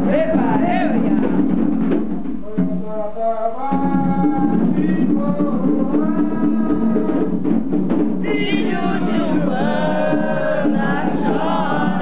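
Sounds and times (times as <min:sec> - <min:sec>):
hand drums beating: 0:00.0 - 0:03.0, 0:03.6 - 0:12.0
voices singing a chant: 0:00.0 - 0:07.6, 0:08.2 - 0:12.0.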